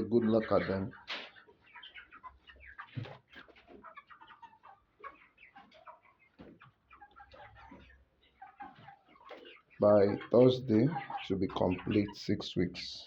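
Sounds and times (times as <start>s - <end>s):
chicks peeping and clucking: 0.0s - 13.0s.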